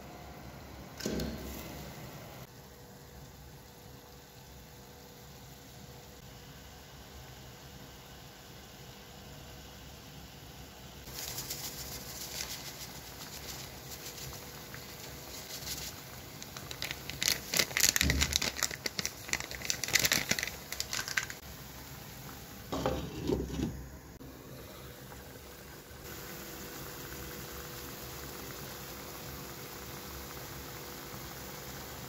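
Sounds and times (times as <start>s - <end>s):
mushrooms sizzling in a pan: 1.3s - 23.5s, 24.2s - 32.0s.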